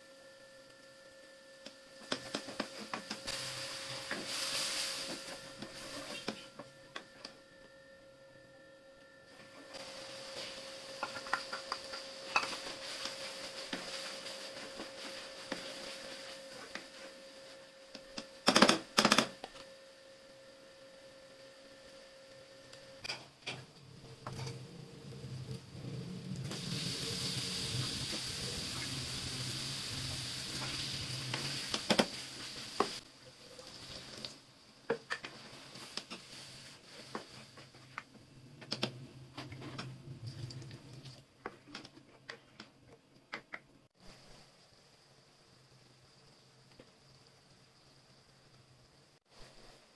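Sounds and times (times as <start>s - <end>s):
lentils frying in a wok: 0.0s - 7.1s, 9.3s - 18.7s, 20.1s - 41.9s, 43.9s - 49.9s.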